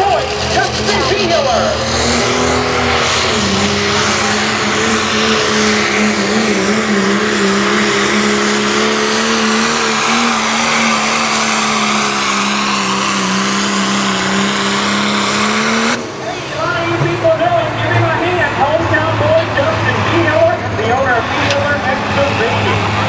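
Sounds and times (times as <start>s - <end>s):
diesel truck engine at high rpm: 0.0s - 23.0s.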